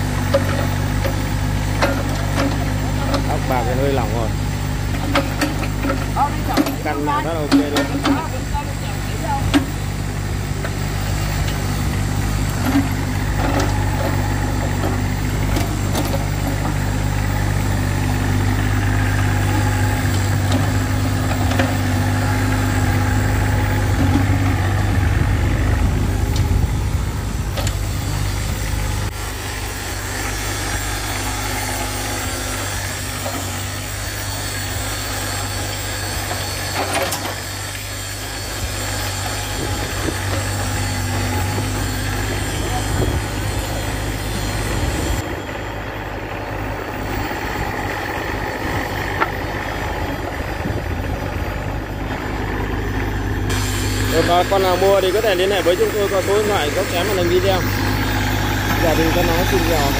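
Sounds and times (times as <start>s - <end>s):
diesel excavator engine running: 0.0s - 59.9s.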